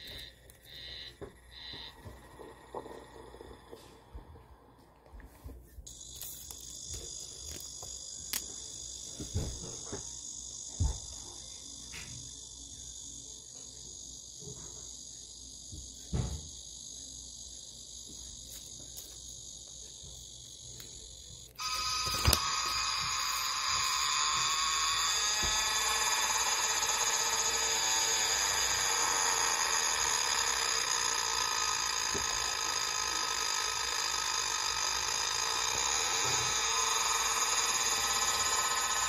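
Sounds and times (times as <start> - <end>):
cicada buzzing high-pitched: 0.0 - 3.4, 5.9 - 39.0
cicada ringing song: 0.0 - 3.7, 5.9 - 39.0.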